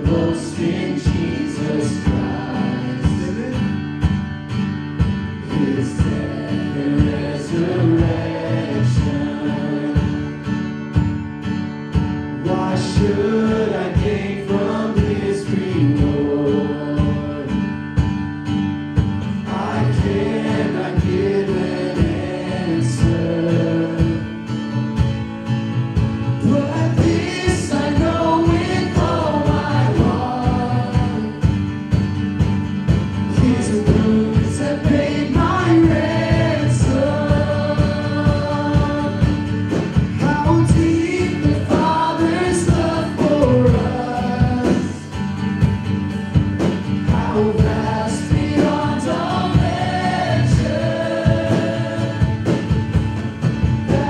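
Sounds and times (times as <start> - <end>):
people singing: 0.0 - 25.0, 26.0 - 54.0
acoustic guitar: 0.0 - 54.0.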